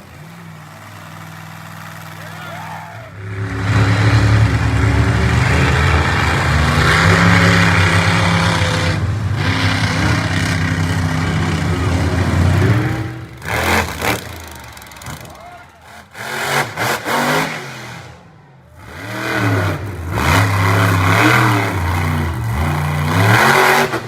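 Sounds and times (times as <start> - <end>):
monster truck engine revving: 0.0 - 24.0.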